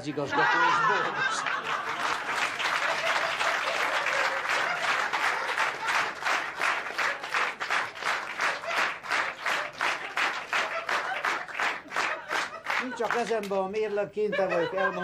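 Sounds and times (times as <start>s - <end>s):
audience applauding: 1.2s - 13.6s
rhythmic clapping in unison: 1.4s - 13.6s.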